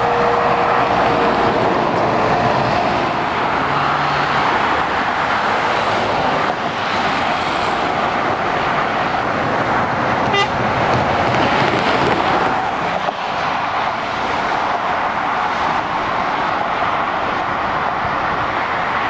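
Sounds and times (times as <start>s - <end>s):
motorway traffic: 0.0s - 19.0s.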